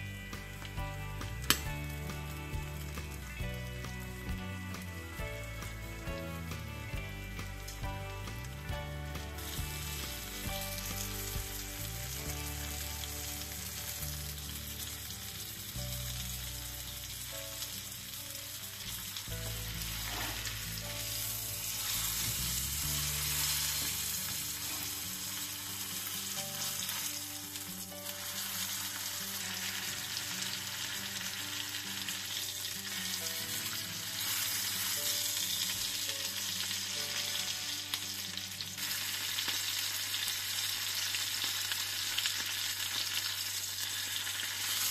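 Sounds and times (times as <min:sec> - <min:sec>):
meat sizzling in butter: 0:00.2 - 0:44.9.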